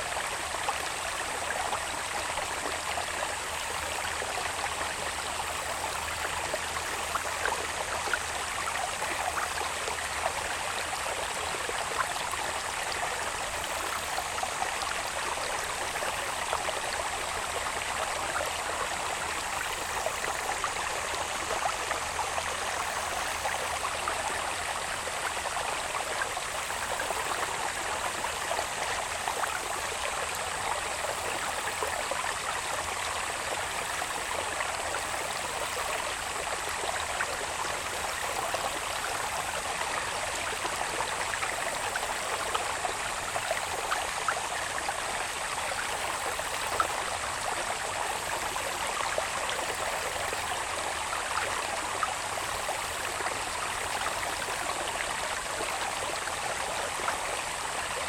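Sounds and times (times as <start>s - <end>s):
water babbling in a channel: 0.0s - 58.0s.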